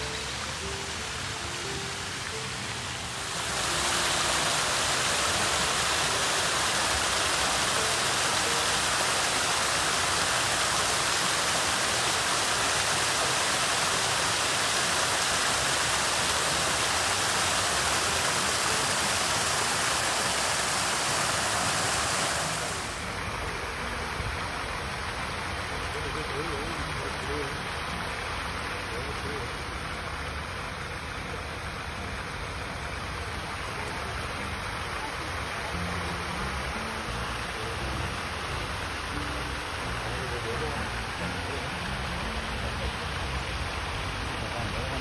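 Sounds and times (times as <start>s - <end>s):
water splashing over waterfall: 0.0s - 45.0s.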